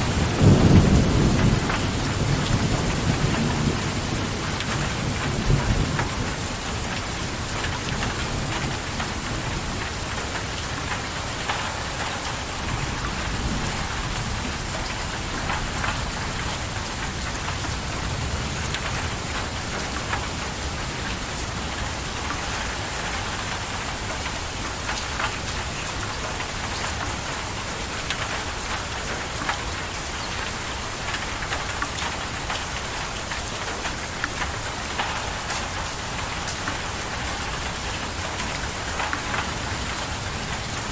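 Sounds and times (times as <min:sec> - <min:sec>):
steady rain falling: 0:00.0 - 0:40.9
raindrop ticks: 0:04.4 - 0:40.9.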